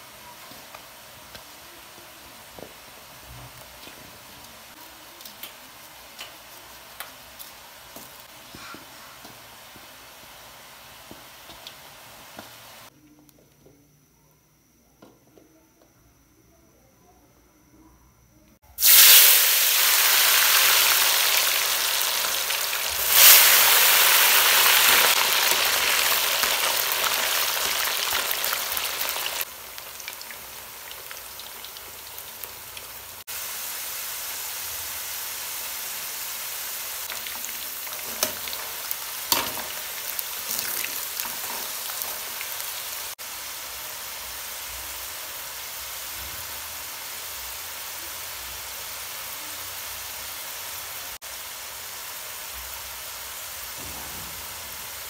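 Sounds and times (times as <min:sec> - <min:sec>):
fries sizzling in oil: 0:00.0 - 0:12.9, 0:18.6 - 0:55.0.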